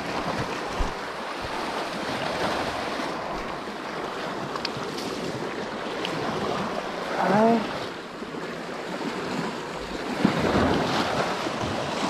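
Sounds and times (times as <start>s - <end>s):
sea surf washing over rocks: 0.0s - 12.0s.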